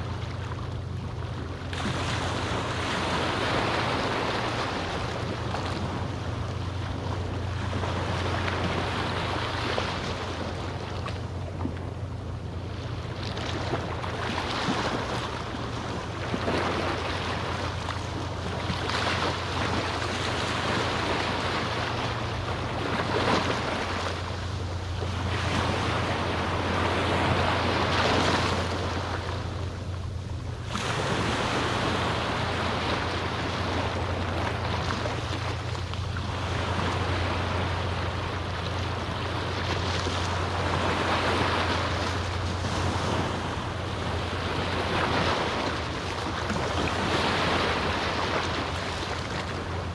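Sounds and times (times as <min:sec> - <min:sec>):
waves washing onto beach: 0:00.0 - 0:49.9.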